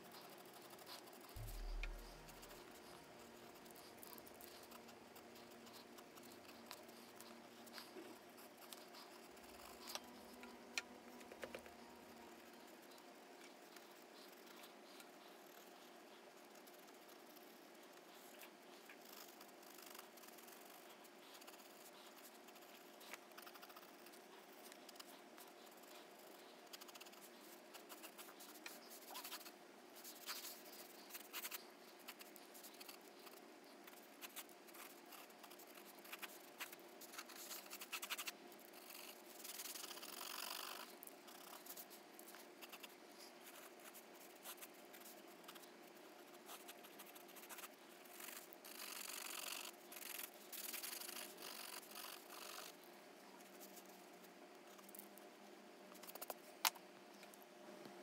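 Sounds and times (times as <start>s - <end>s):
pencil scratching on paper: 0.0s - 10.6s, 11.3s - 52.8s
faint steady hum: 0.0s - 58.0s.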